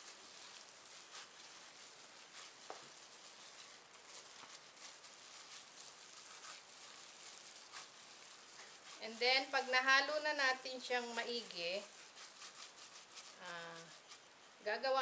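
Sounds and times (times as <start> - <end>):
hand kneading wet ground meat: 0.0 - 15.0.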